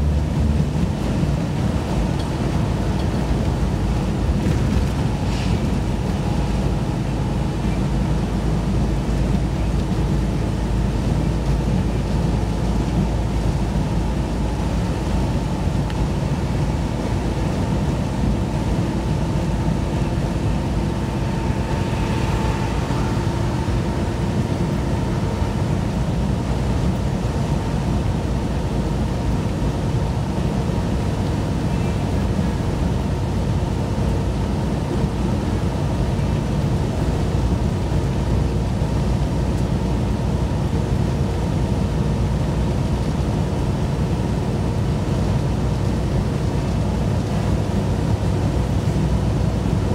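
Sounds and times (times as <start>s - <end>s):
vehicle road and engine noise: 0.0s - 49.9s.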